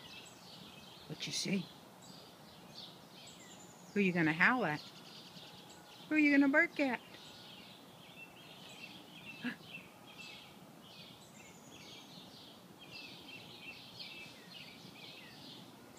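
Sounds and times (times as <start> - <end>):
birds chirping and singing: 0.0 - 15.9.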